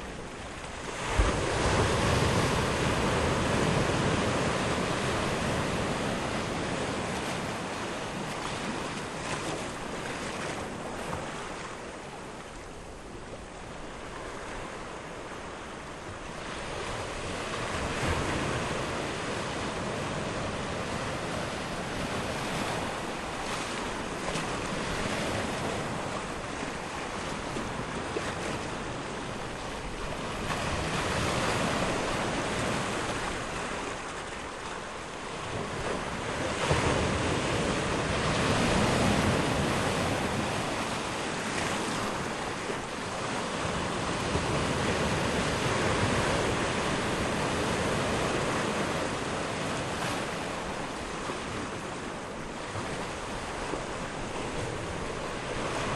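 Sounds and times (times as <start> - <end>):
waves washing in and out: 0.0 - 55.9.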